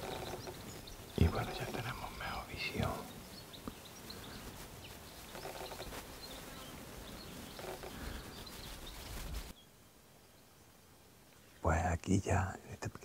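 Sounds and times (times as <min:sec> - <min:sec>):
faint outdoor hiss: 0:00.0 - 0:13.0
small birds chirping: 0:00.0 - 0:13.0.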